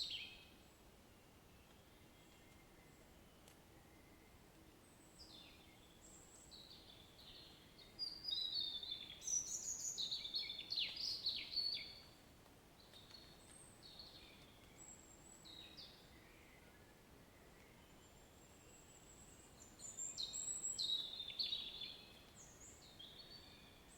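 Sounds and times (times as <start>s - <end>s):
small birds chirping: 0.0s - 0.9s, 4.7s - 12.2s, 12.8s - 23.9s
faint steady hiss: 0.0s - 23.9s.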